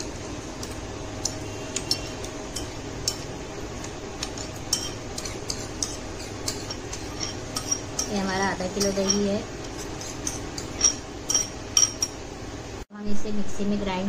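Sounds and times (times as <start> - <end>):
metal spoon clinking on bowl: 0.0 - 12.2
steady low hum: 0.0 - 14.0.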